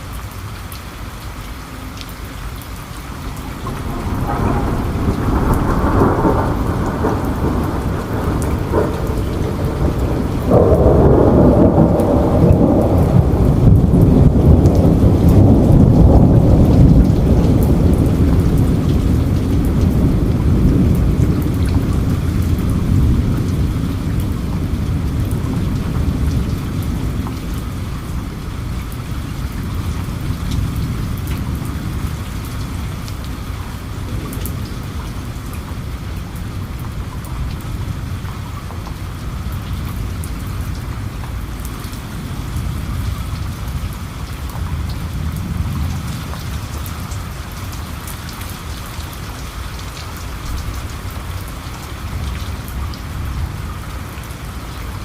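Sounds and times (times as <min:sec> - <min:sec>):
steady rain falling: 0:00.0 - 0:55.0
distant thunder rumbling: 0:03.2 - 0:54.7.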